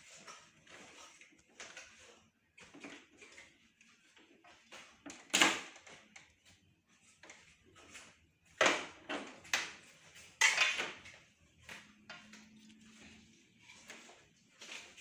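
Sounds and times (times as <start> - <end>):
rubbing and scraping of parts: 0.0 - 15.0.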